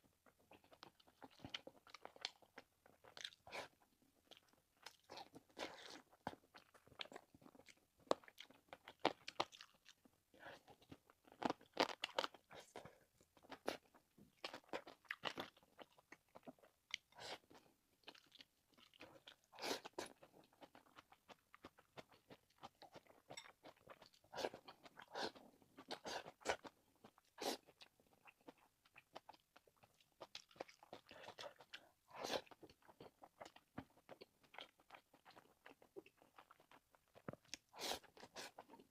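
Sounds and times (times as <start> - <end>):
person chewing meat: 0.4 - 38.9.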